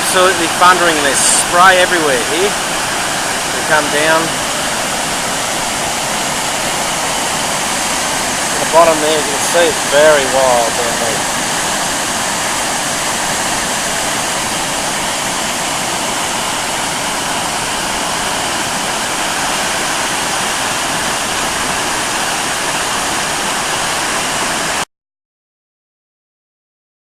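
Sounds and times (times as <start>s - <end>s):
waterfall thundering rush: 0.0s - 24.8s.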